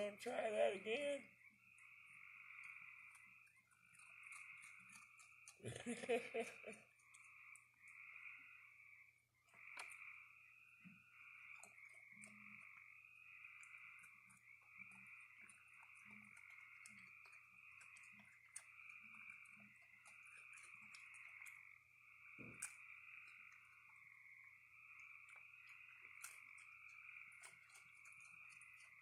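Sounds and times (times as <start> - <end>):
animals crunching food: 0.0 - 29.0
frogs calling: 0.0 - 29.0.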